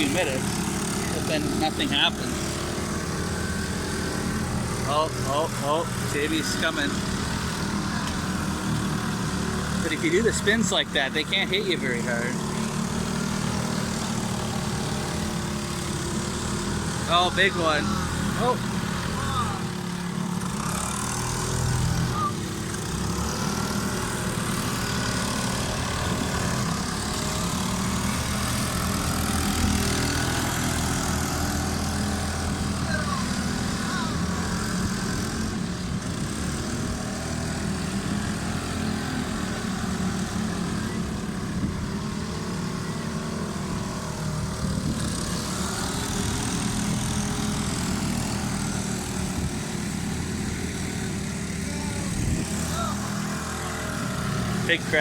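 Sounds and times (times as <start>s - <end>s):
small motors droning: 0.0s - 55.0s.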